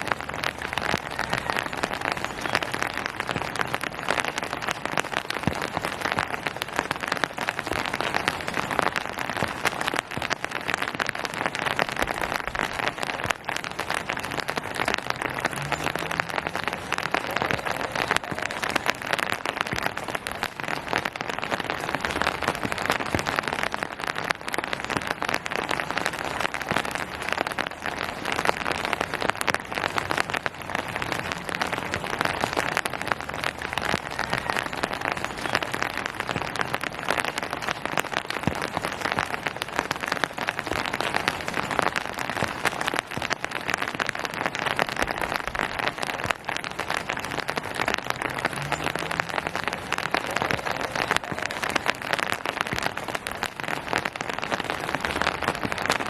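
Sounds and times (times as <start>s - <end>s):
rain on hard surfaces and leaves: 0.0s - 56.0s.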